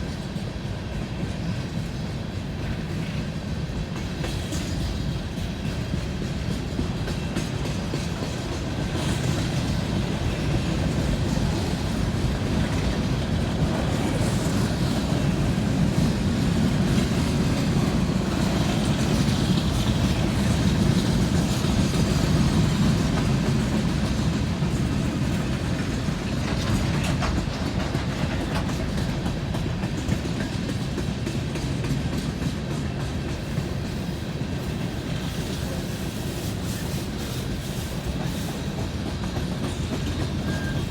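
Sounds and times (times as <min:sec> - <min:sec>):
freight train wheels clicking: 0:00.0 - 0:40.9.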